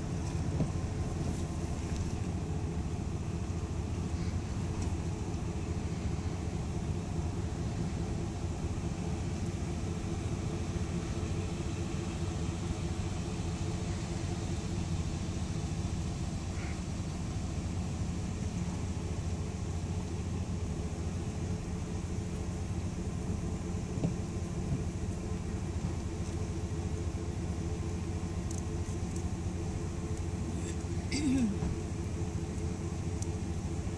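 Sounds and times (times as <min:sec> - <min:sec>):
car engine and tyres rumbling: 0:00.0 - 0:33.9.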